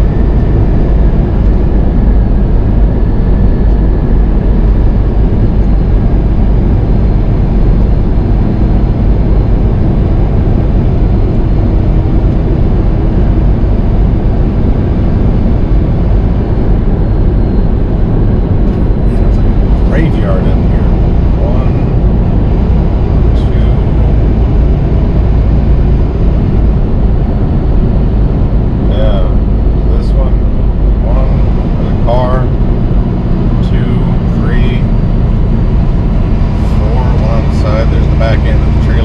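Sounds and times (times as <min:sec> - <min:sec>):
truck engine and road noise: 0:00.0 - 0:39.0.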